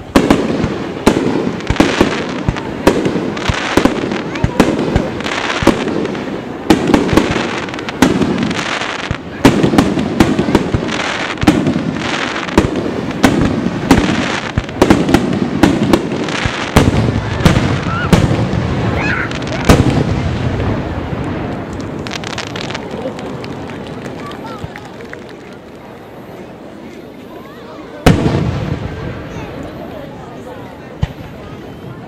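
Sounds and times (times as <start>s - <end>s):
fireworks bursting with sharp bangs: 0.0s - 25.8s, 28.0s - 32.0s
crackle of burning fireworks: 0.0s - 27.2s, 27.8s - 32.0s.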